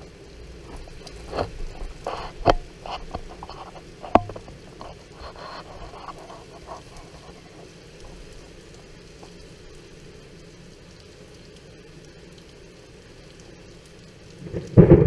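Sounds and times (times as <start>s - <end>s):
faint steady rain hiss: 0.0s - 15.0s
raindrops tapping on a surface: 0.0s - 15.0s.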